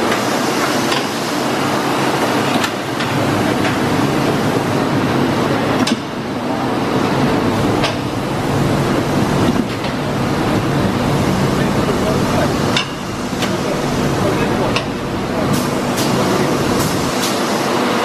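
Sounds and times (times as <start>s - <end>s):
production line machinery din: 0.0s - 18.0s.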